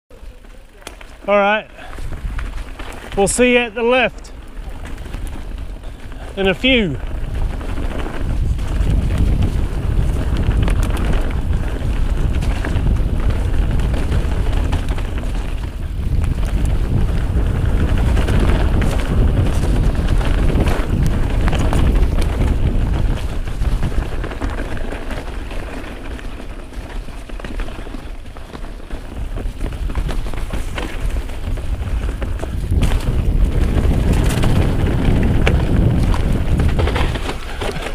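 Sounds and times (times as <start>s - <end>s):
bike rattles and knocks: 0.1s - 37.9s
mountain bike tyres on dirt: 0.1s - 37.9s
wind buffeting microphone: 0.1s - 37.9s.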